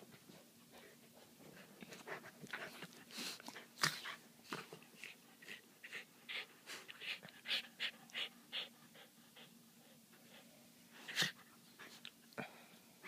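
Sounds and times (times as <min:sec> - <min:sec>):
puppies panting: 0:00.3 - 0:12.1.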